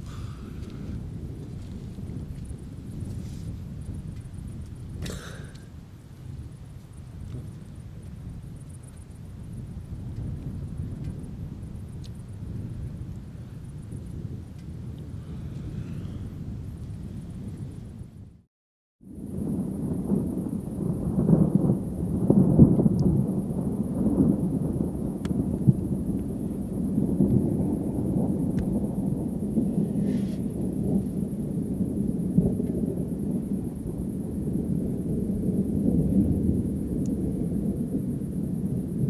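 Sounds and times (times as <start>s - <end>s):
thunder rumbling: 0.0s - 18.4s, 19.1s - 39.0s.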